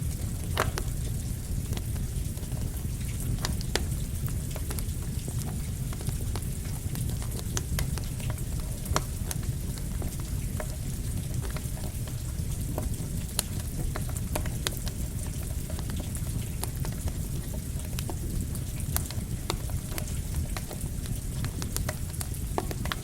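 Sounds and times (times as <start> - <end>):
campfire crackling and popping: 0.0 - 23.0
rain hissing: 0.0 - 23.0.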